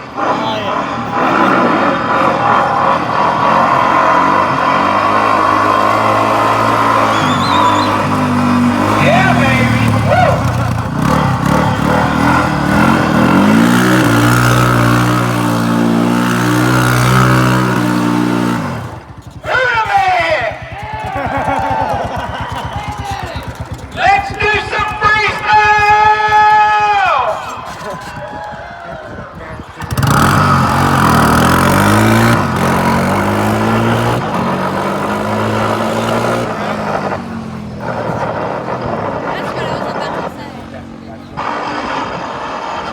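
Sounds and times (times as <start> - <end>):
car engine revving: 0.0 - 28.3, 29.4 - 42.9.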